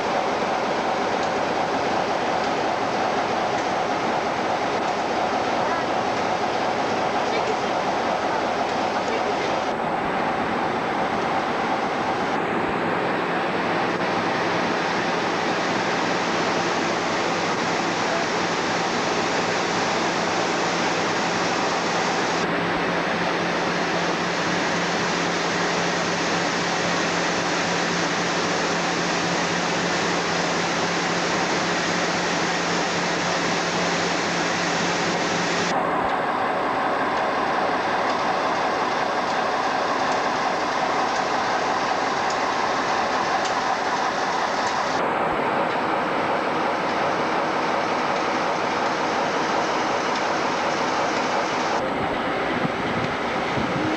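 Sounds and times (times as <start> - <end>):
train high steady tone: 0.0 - 53.9
train low hum: 0.0 - 53.9.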